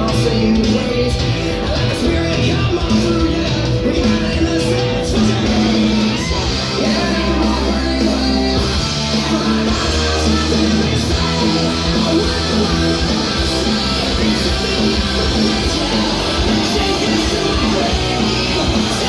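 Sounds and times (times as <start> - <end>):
bass line: 0.0 - 19.0
electric guitar song: 0.0 - 19.0.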